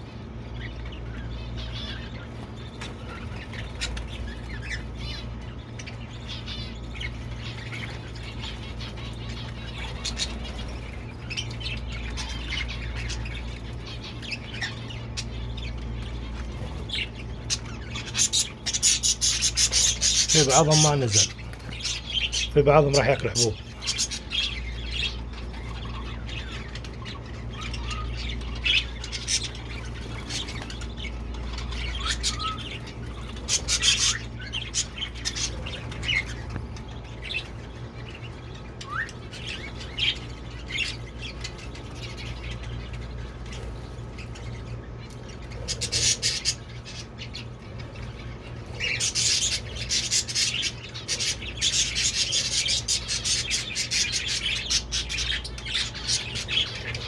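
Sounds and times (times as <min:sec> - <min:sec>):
birds chirping and squawking: 0:00.0 - 0:57.0
steady low hum: 0:00.0 - 0:57.0.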